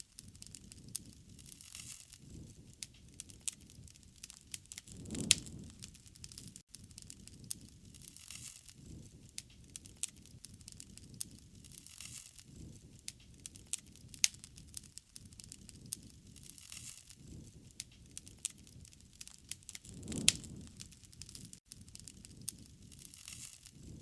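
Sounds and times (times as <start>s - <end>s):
wood fire crackling and popping: 0.0s - 24.0s
flames rushing: 0.2s - 24.0s.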